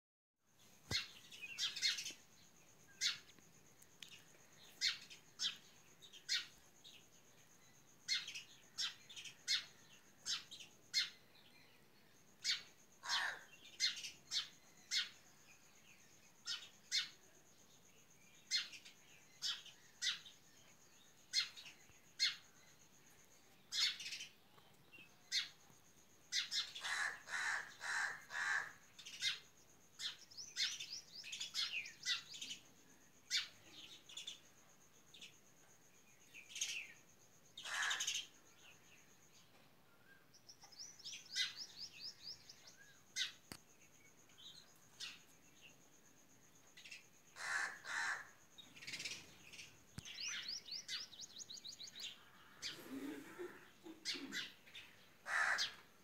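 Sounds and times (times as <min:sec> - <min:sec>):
birds chirping: 0:00.6 - 0:56.0.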